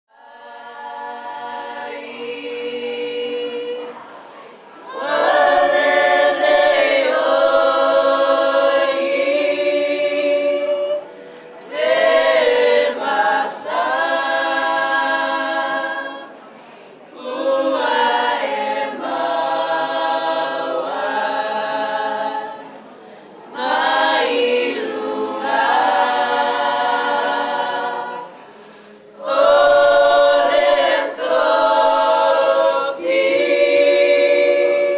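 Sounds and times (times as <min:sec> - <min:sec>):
choir singing unaccompanied: 0:00.1 - 0:34.9.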